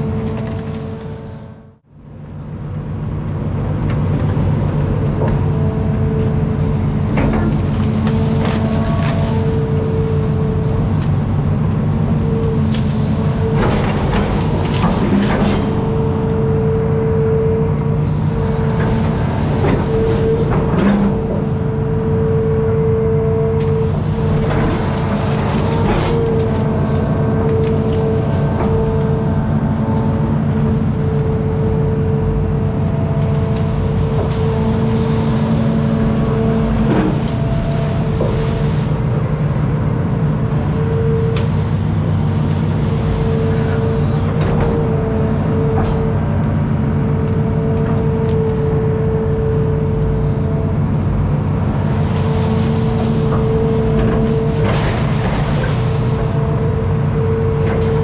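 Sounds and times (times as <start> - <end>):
diesel engine running: 0.0 - 58.0
whine: 0.0 - 58.0.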